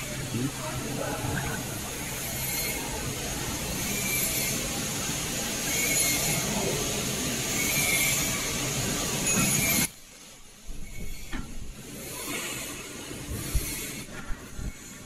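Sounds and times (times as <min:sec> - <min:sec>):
machine mechanical whir: 0:00.0 - 0:15.0.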